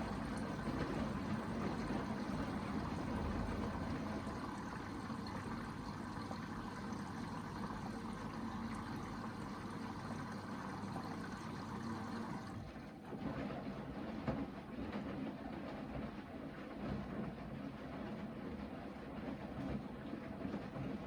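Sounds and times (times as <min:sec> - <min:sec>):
water sloshing in washing machine: 0:00.0 - 0:21.0.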